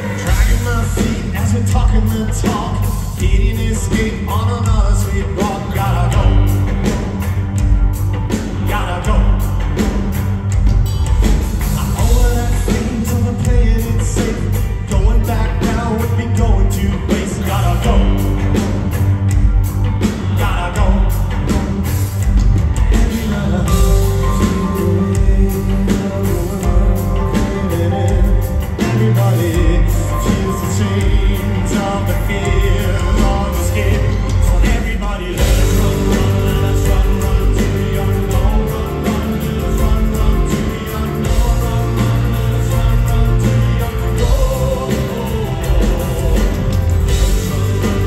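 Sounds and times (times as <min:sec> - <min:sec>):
man singing: 0:00.0 - 0:07.3, 0:08.3 - 0:10.0, 0:11.6 - 0:19.1, 0:20.0 - 0:22.2, 0:22.8 - 0:48.0
live rock music: 0:00.0 - 0:48.0.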